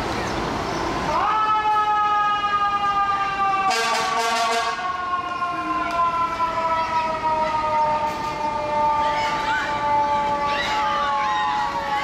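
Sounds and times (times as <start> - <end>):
fire engine siren wailing: 0.9 - 12.0.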